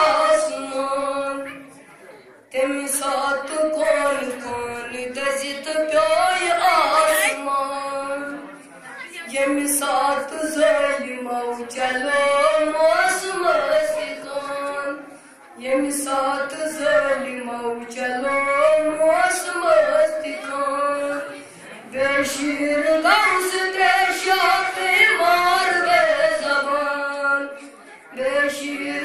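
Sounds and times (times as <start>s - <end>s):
boy chanting into microphone: 0.0s - 1.9s, 2.5s - 29.0s.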